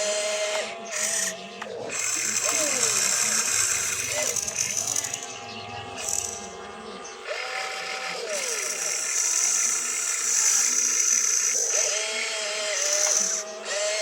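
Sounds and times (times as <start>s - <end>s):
constant high whine: 0.0s - 14.0s
small electric motors whining: 0.0s - 14.0s.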